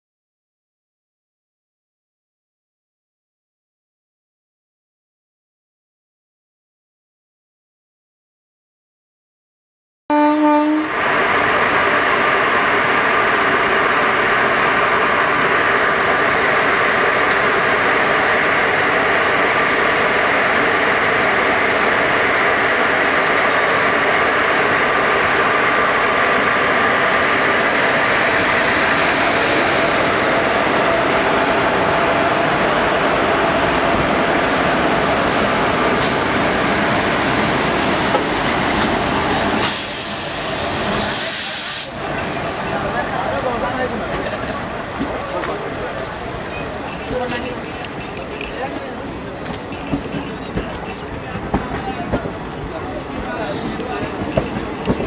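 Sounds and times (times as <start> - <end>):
electric locomotive whine: 10.1 - 55.0
locomotive hum: 10.1 - 55.0.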